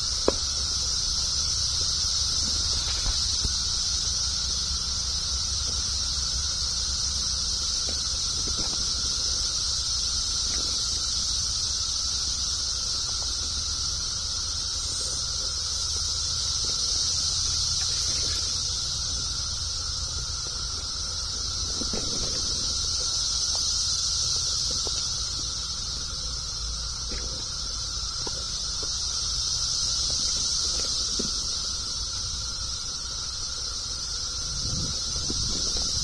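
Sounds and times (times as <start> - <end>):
cicadas droning: 0.0 - 36.0
low steady whine: 0.0 - 36.0.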